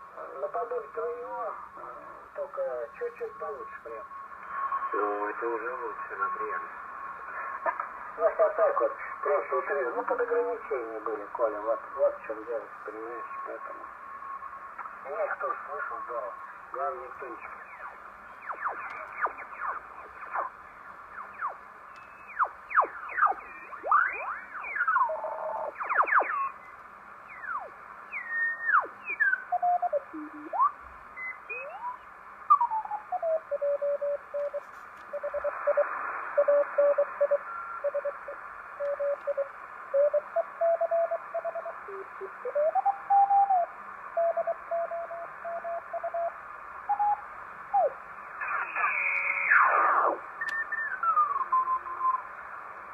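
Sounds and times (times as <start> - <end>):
radio band hiss: 0.0 - 52.9.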